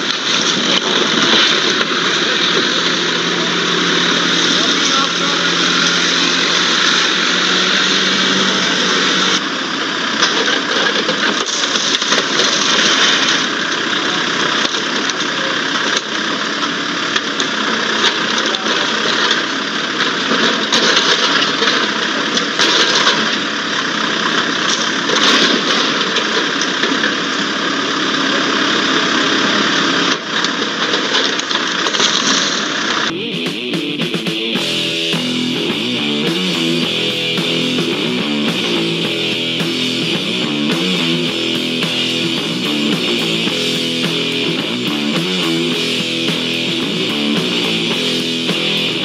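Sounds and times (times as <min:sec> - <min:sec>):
diesel engine running: 0:00.0 - 0:30.4, 0:31.8 - 0:49.0.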